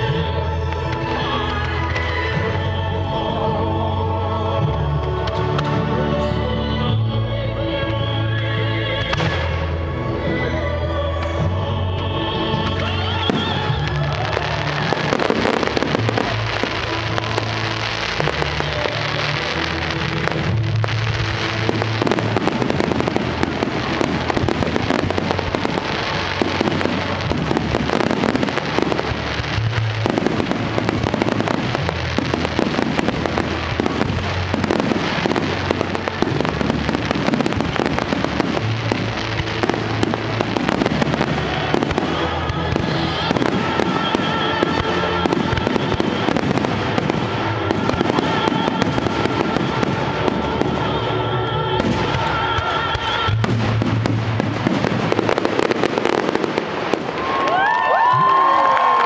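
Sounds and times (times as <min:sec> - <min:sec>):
fireworks bangs and crackles: 0:00.0 - 0:03.6, 0:08.9 - 0:10.4, 0:12.5 - 0:59.0
music with steady bass line: 0:00.0 - 0:56.6.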